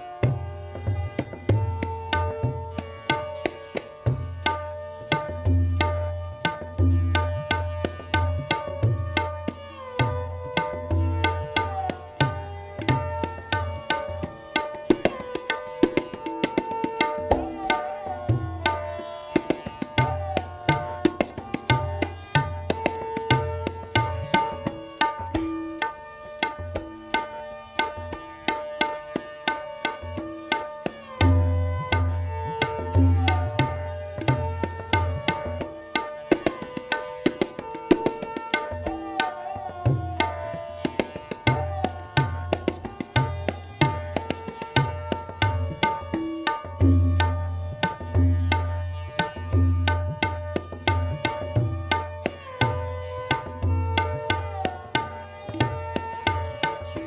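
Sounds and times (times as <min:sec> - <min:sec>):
sarangi melody: 0:00.0 - 0:57.0
tabla drumming: 0:00.0 - 0:57.0.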